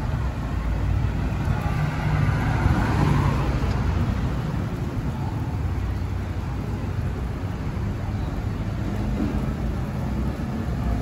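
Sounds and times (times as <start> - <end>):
car passing: 0.0 - 11.0
street traffic noise: 0.0 - 11.0.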